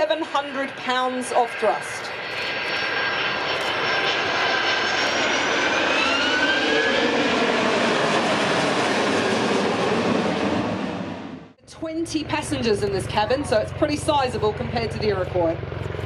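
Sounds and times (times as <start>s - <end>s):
jet engine roar: 0.0s - 16.0s
rising jet engine whine: 0.0s - 16.0s.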